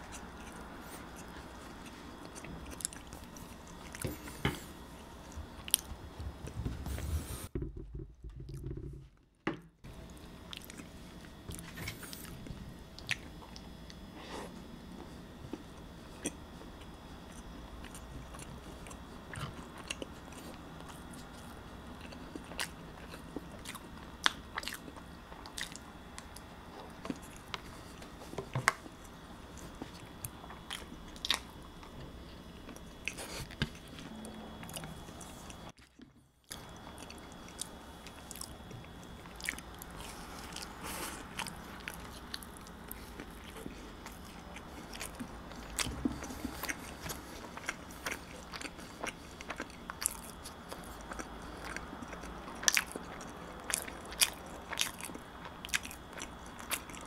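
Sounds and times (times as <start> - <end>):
chewing and wet mouth sounds: 0.0 - 6.6, 9.9 - 57.0.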